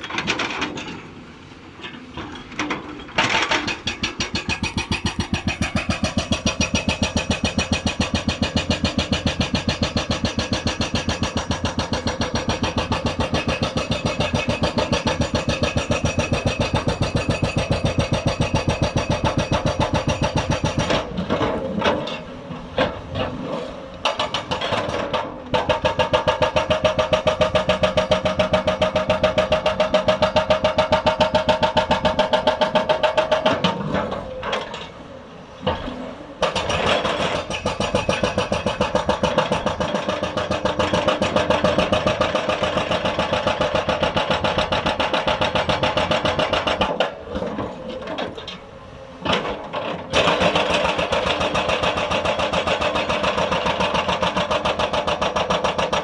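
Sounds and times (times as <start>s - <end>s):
hydraulic breaker hammering rock: 2.7s - 34.9s, 35.6s - 48.6s, 49.2s - 56.0s.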